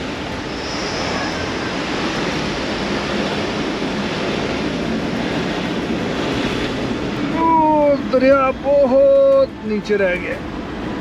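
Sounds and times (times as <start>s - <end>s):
road and wind noise from car: 0.0s - 11.0s.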